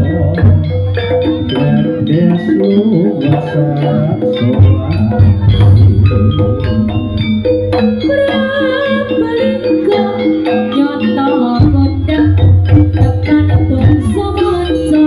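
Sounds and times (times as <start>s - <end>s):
gamelan ensemble over loudspeakers: 0.0s - 15.0s.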